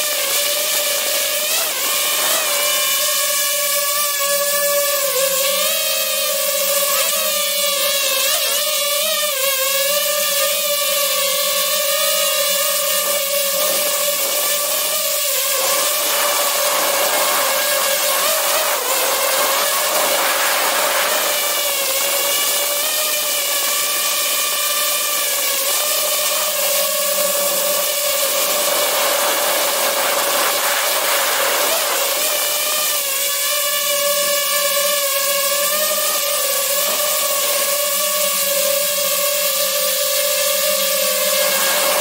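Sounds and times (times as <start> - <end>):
drone propellers buzzing: 0.0 - 42.0.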